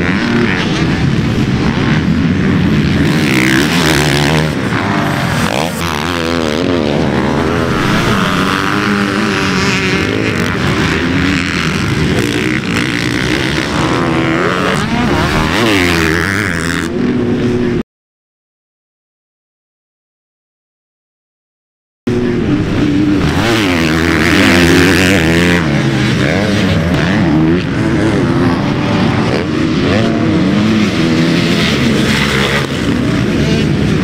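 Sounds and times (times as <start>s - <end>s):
motocross bike engines revving: 0.0s - 17.8s, 22.1s - 34.0s.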